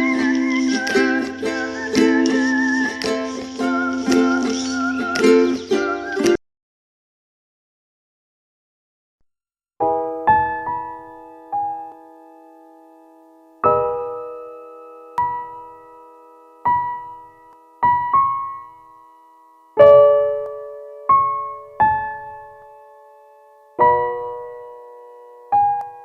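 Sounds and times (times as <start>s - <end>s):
slow solo piano: 0.0s - 6.4s, 9.8s - 26.0s.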